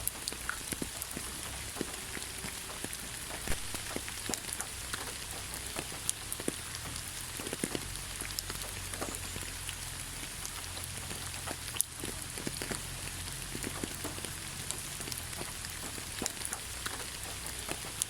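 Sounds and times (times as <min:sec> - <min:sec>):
drops ticking on foliage: 0:00.0 - 0:18.0
rain falling on leaves: 0:00.0 - 0:18.0.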